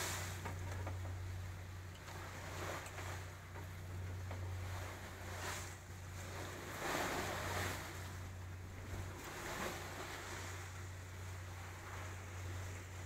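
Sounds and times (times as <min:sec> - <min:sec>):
steady low hum: 0:00.0 - 0:13.0
water splashing along boat hull: 0:00.0 - 0:13.0.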